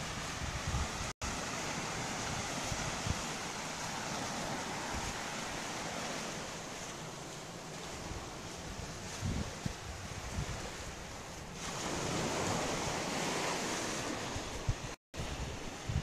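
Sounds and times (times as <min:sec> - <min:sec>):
sea surf: 0:00.0 - 0:16.0.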